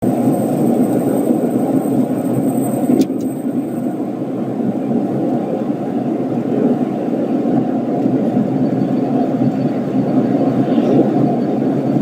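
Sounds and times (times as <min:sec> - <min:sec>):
road and tyre noise: 0:00.0 - 0:12.0.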